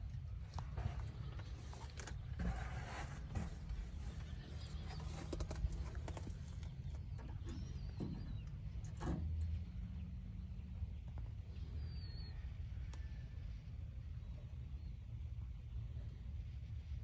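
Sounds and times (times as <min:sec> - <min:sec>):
low handling rumble: 0:00.0 - 0:17.0.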